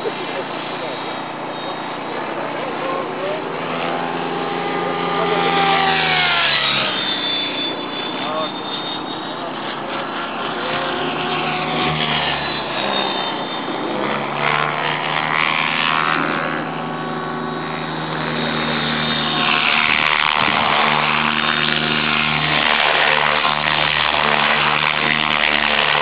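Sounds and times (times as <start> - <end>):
rc helicopter rotor whine: 0.0 - 26.0.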